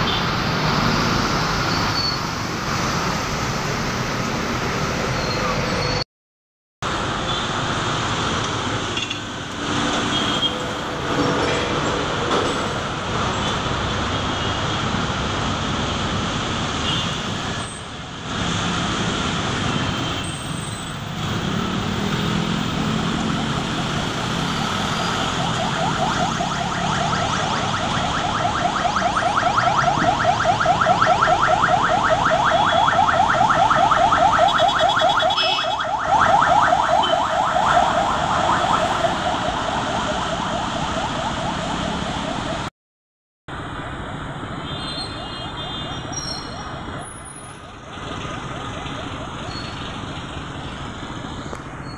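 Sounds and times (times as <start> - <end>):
heavy road traffic: 0.0 - 6.0, 6.8 - 42.7, 43.5 - 51.9.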